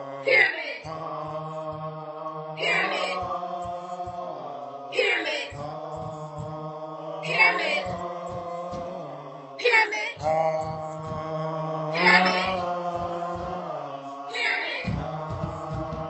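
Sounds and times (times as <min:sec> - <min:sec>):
man chanting in a drone: 0:00.0 - 0:00.3, 0:00.9 - 0:09.6, 0:10.2 - 0:14.3, 0:14.9 - 0:16.0.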